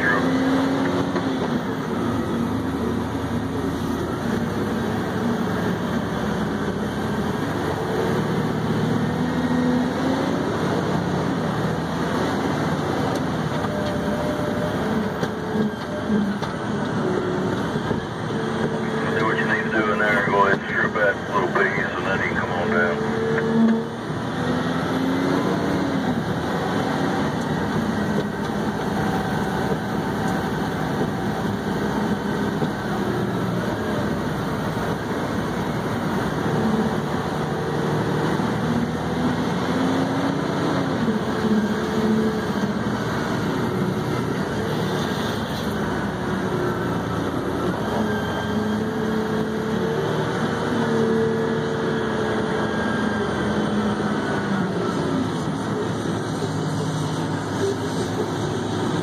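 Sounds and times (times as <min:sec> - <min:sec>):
truck diesel engine: 0:00.0 - 0:59.0.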